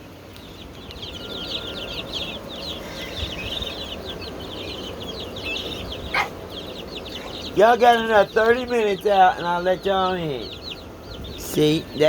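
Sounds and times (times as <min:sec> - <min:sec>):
chickens chirping: 0:00.0 - 0:12.0.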